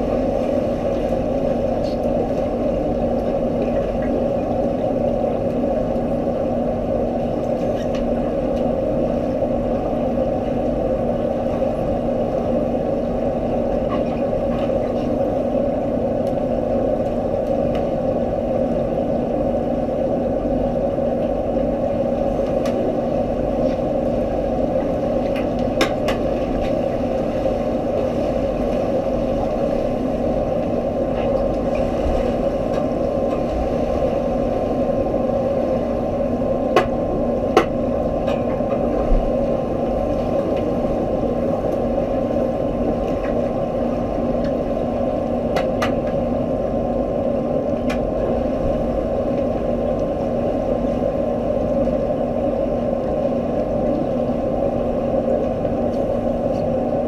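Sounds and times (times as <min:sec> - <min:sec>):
underwater pool pump hum: 0:00.0 - 0:57.0.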